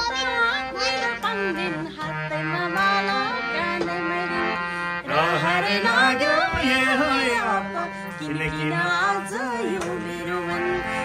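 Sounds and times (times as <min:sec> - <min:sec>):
harmonium chords: 0:00.0 - 0:11.0.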